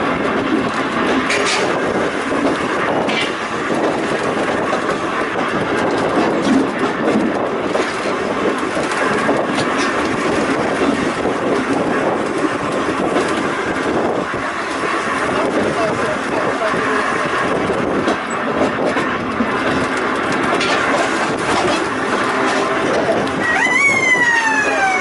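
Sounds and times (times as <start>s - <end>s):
railway car rumbling: 0.0s - 25.0s
wheels clicking over rail joints: 0.0s - 25.0s.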